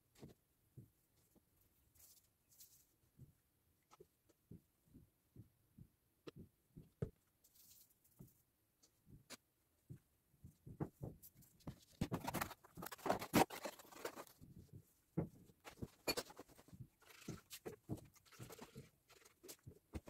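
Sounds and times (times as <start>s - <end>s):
rustling and scraping with clicks: 1.2s - 4.5s, 6.3s - 20.0s.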